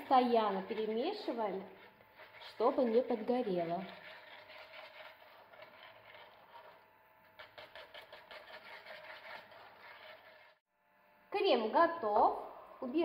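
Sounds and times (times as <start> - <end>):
whisk scraping saucepan: 0.0 - 10.6.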